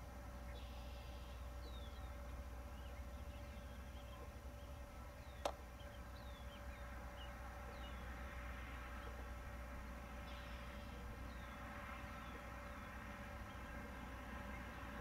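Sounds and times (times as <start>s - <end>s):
low steady rumble: 0.0s - 15.0s
small birds chirping: 0.1s - 15.0s.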